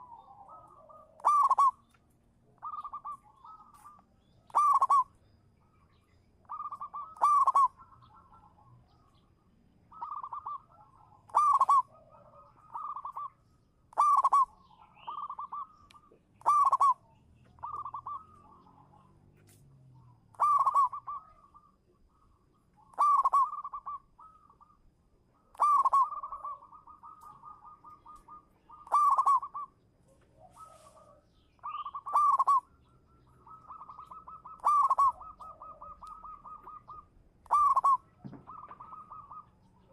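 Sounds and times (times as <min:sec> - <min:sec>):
dove cooing: 0:00.0 - 0:02.0, 0:02.6 - 0:05.1, 0:06.0 - 0:09.3, 0:09.9 - 0:39.9.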